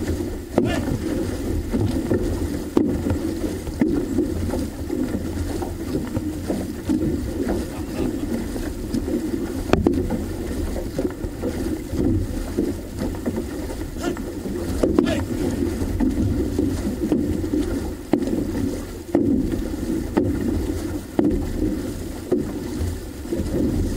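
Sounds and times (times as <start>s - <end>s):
water rushing along canoe hull: 0.0s - 23.9s.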